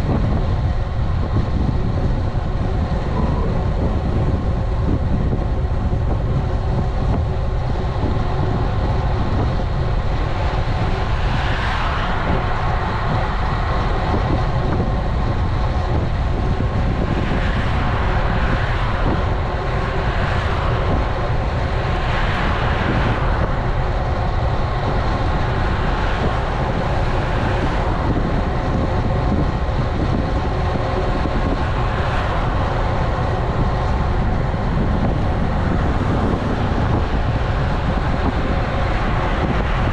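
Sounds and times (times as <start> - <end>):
road and tyre noise: 0.0 - 39.9
wind rumbling over microphone: 0.0 - 39.9.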